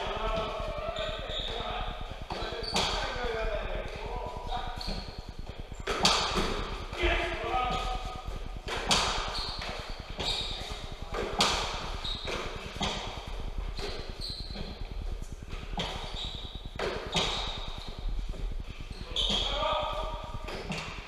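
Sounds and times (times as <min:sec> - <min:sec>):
shoes squeaking on court floor: 0:00.0 - 0:21.0.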